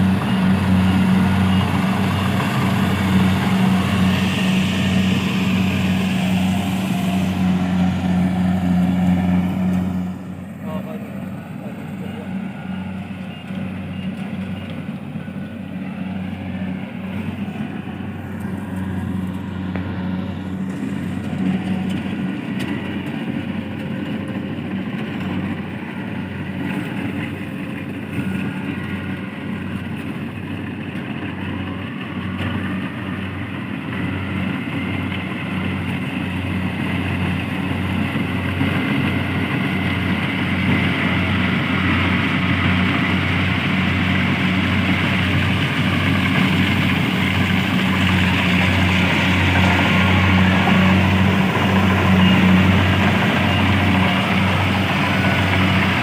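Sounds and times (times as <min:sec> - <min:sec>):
engine running with low hum: 0:00.0 - 0:56.0.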